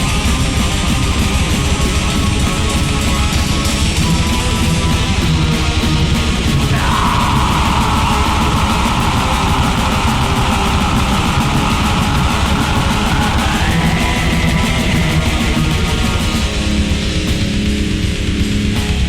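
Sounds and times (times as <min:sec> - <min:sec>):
distorted guitars and drums: 0:00.0 - 0:19.0.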